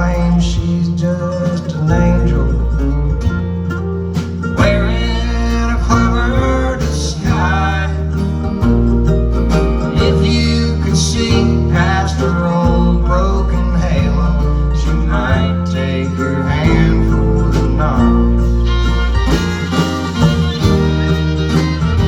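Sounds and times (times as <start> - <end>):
bass line: 0.0 - 22.0
country band playing: 0.0 - 22.0
guitar: 0.0 - 22.0.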